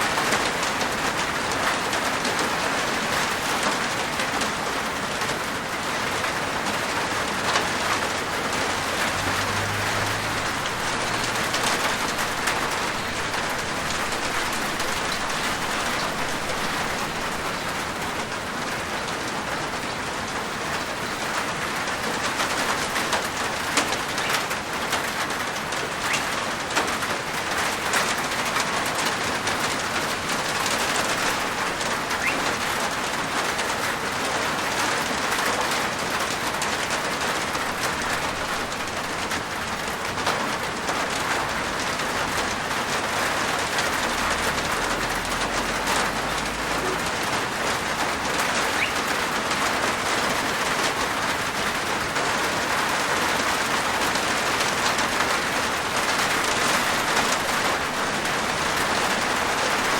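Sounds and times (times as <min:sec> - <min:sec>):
rain on a rooftop: 0:00.0 - 0:59.9.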